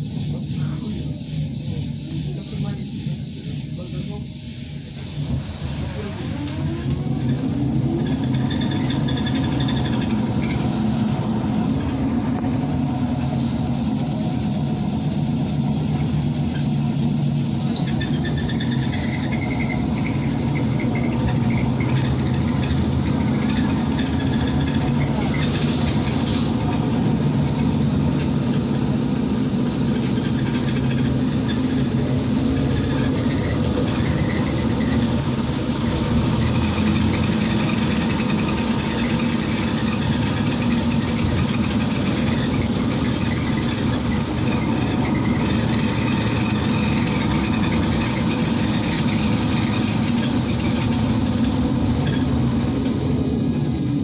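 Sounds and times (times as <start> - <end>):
electric drive drone: 0.0 - 54.0
road and tyre noise: 0.0 - 54.0.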